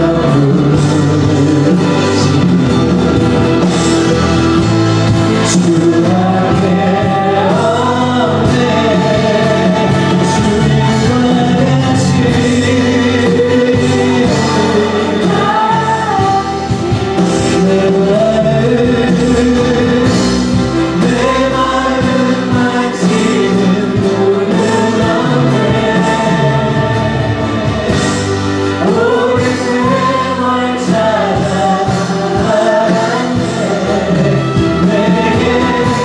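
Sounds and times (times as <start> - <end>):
group singing worship song: 0.0 - 36.0
instrumental accompaniment: 0.0 - 36.0.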